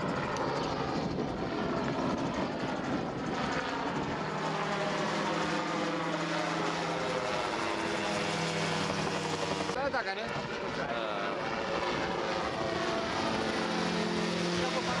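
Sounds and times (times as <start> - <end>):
gyrocopter engine droning overhead: 0.0 - 15.0.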